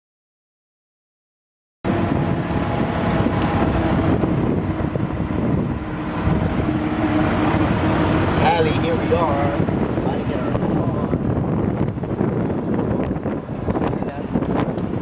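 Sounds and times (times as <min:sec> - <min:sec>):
vehicle rumble: 0:01.9 - 0:15.0
wind on microphone: 0:01.9 - 0:15.0.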